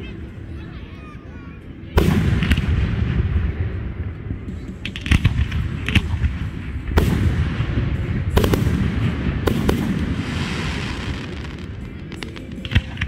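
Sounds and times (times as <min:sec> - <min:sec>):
low rolling rumble and echo: 0:01.8 - 0:13.0.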